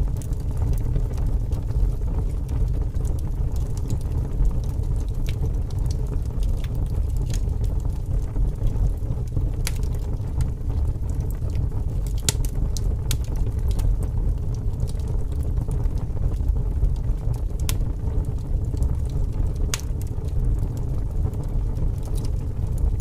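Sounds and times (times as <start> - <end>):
low rumble of wind: 0.0 - 23.0
wood fire crackling: 0.0 - 23.0.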